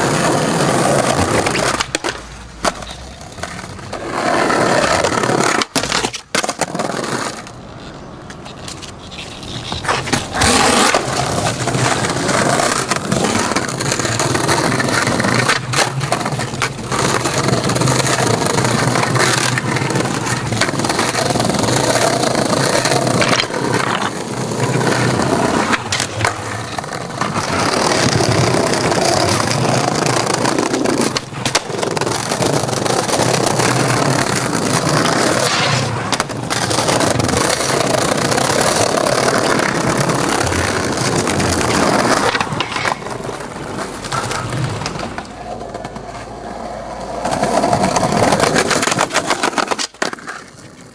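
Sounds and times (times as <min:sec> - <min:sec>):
skateboard wheels on rough paving: 0:00.0 - 0:50.9.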